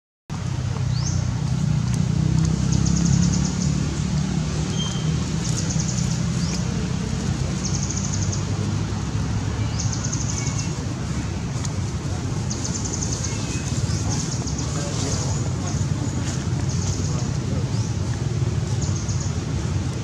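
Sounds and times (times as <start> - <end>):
distant road traffic drone: 0.3 - 20.0.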